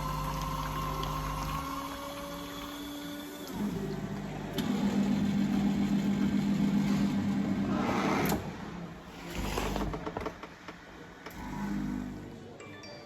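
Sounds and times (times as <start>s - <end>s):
mechanical motor hum: 0.0s - 12.5s.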